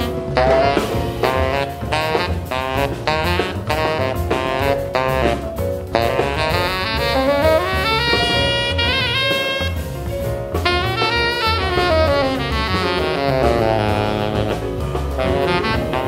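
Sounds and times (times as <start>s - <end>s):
double bass: 0.0s - 16.0s
drums: 0.0s - 16.0s
tenor saxophone jazz solo: 0.0s - 16.0s.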